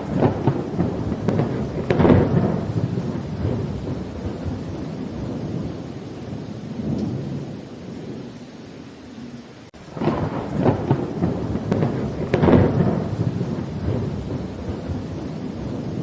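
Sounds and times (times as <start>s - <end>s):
crackling thunder peal: 0.0s - 8.3s, 9.8s - 16.0s
steady rain: 0.0s - 16.0s
thunder rumbling: 0.0s - 16.0s.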